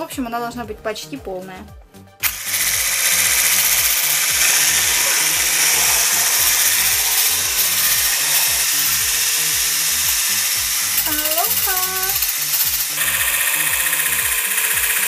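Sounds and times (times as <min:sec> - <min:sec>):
electric hand blender whisking: 0:02.2 - 0:15.0.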